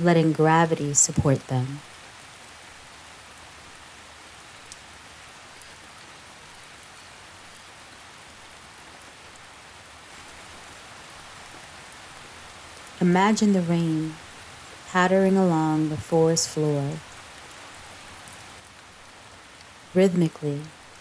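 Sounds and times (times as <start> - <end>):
rain on leaves: 0.0 - 21.0.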